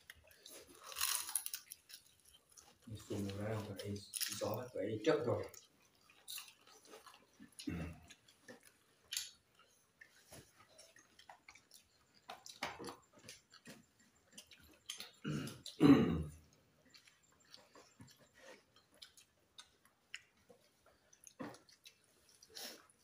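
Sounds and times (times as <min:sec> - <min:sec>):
chewing and mouth clicks: 0:00.0 - 0:04.6, 0:05.3 - 0:23.0.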